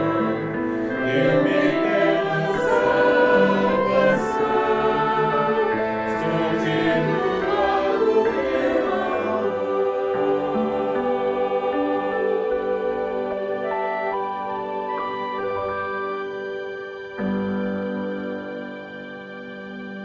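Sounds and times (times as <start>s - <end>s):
church choir singing: 0.0s - 20.0s.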